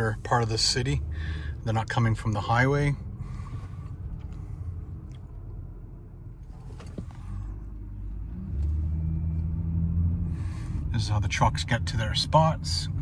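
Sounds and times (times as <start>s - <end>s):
low engine hum: 0.0s - 13.0s
road rumble inside moving car: 0.0s - 13.0s.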